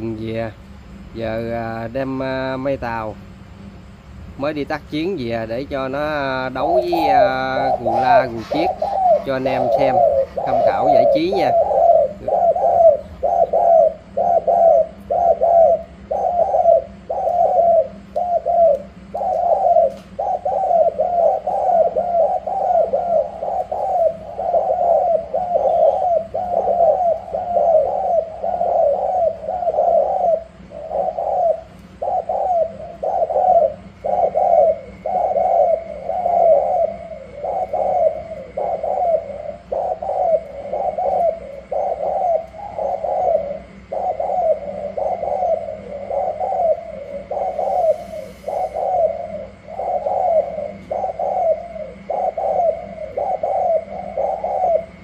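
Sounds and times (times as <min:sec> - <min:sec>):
doves cooing: 0:00.0 - 0:55.0.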